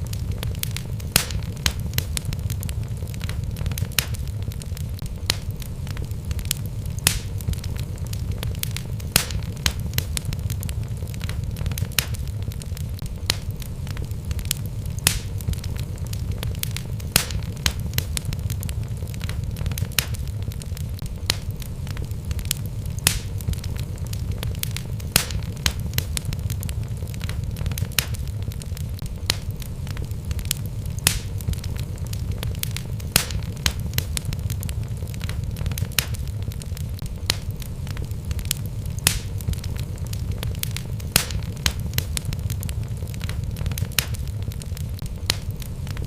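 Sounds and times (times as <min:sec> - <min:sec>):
fire burning in a fireplace: 0:00.0 - 0:46.0
logs crackling and popping: 0:00.0 - 0:46.0
low rumble of flames: 0:00.0 - 0:46.0.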